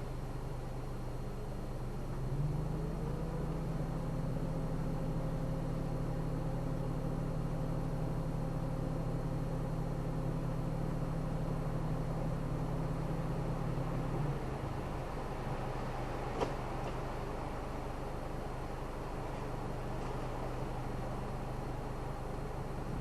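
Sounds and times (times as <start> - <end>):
car engine driving: 0.0 - 23.0.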